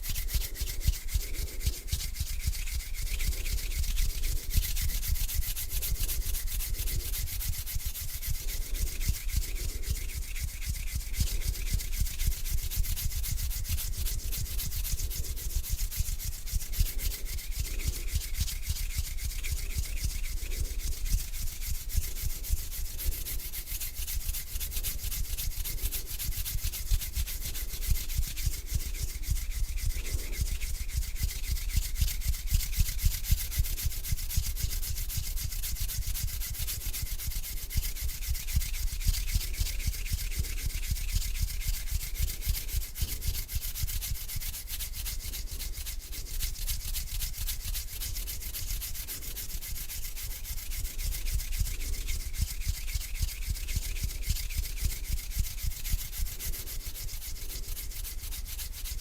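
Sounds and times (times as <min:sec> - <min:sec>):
hands rubbing together: 0:00.0 - 0:59.0.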